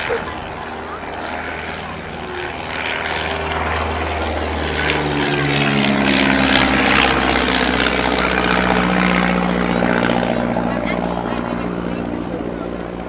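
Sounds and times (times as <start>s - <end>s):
propeller plane droning overhead: 0.0s - 13.0s.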